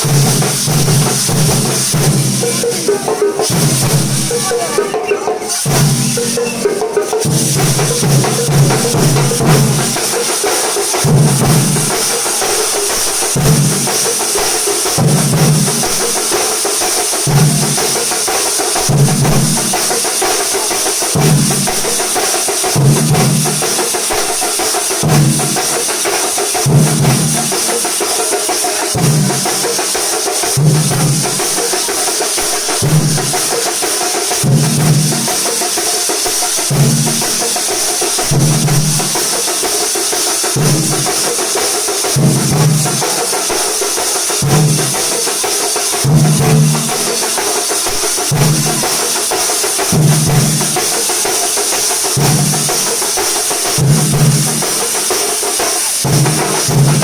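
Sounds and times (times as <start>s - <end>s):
heavy low drum beat: 0.0s - 57.0s.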